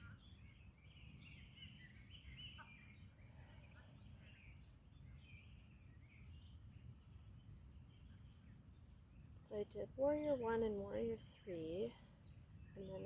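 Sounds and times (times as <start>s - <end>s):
birds chirping and warbling: 0.0s - 13.0s.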